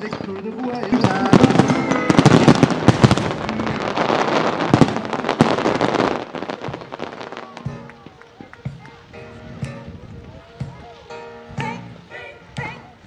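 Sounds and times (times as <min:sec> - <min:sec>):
fireworks bangs: 0:00.0 - 0:11.9
fireworks crackling and popping: 0:00.0 - 0:13.0.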